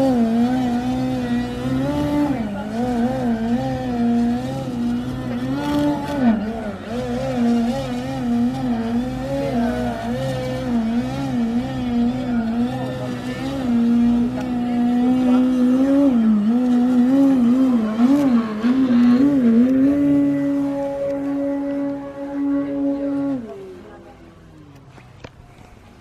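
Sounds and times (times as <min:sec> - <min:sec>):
model plane engine droning: 0:00.0 - 0:24.8.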